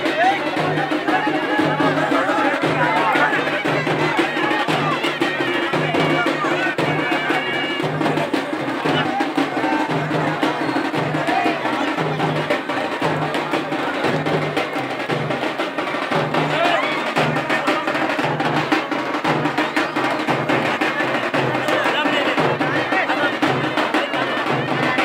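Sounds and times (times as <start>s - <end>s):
drums beating fast rhythm: 0.0s - 25.0s
large crowd noise: 0.0s - 25.0s.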